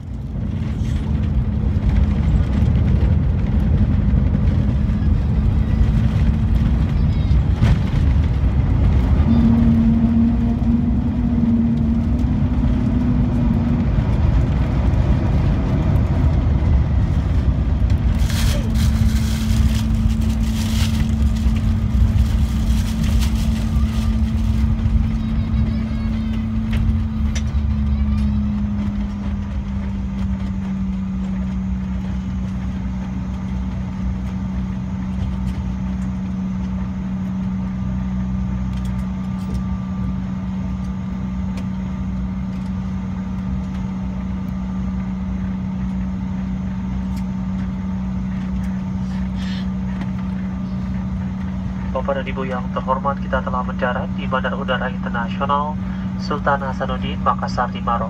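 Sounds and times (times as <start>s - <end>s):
deep rumble: 0.0s - 58.0s
jet engines droning: 0.0s - 58.0s.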